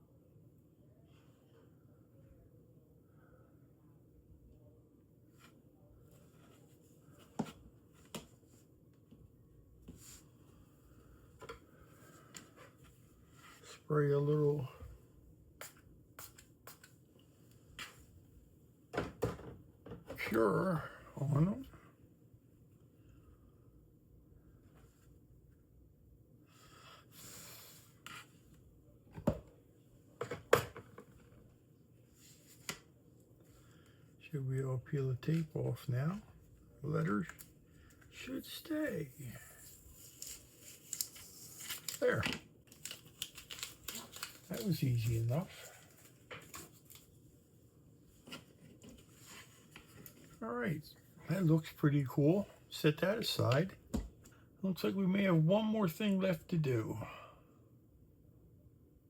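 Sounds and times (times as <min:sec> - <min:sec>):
low room hum: 0:00.0 - 0:59.0.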